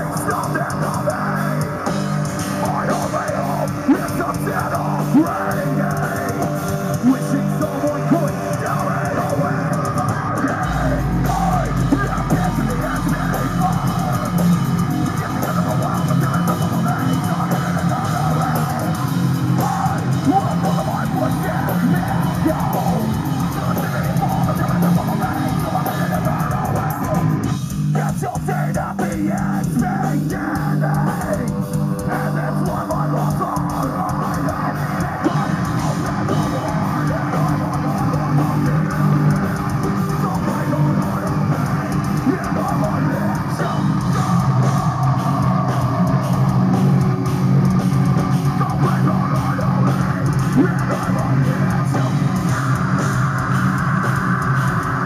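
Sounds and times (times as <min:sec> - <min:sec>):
distorted electric guitars: 0:00.0 - 0:55.0
drum kit: 0:00.0 - 0:55.0.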